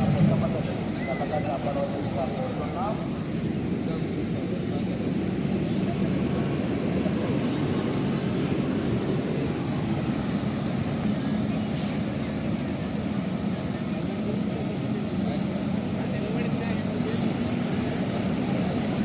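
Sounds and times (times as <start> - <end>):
floodwater rushing across road: 0.0 - 19.0
vehicle engine running: 0.0 - 19.0.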